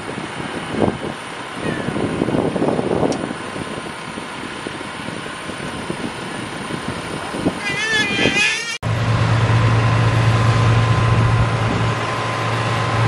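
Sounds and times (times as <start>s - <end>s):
tractor and tanker passing: 0.0s - 13.0s.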